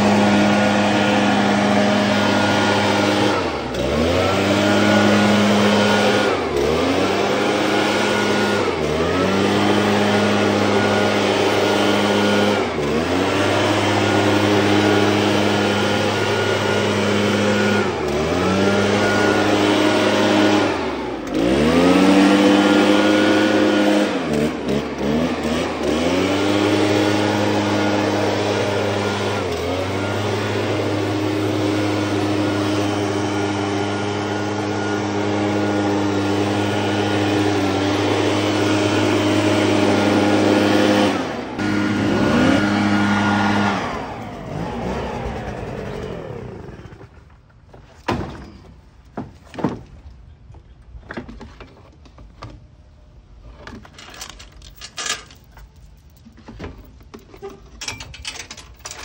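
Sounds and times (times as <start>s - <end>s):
leaf blower engine running: 0.0s - 47.5s.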